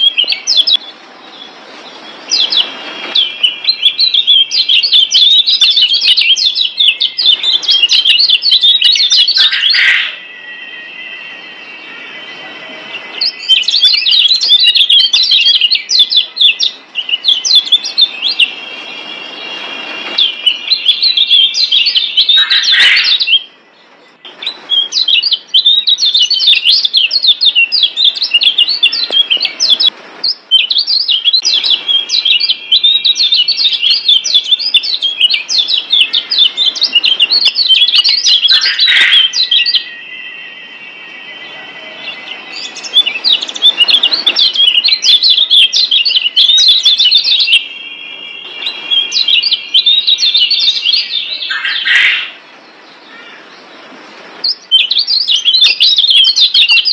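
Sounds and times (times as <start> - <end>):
bird singing high chirps and trills: 0.0 - 56.9.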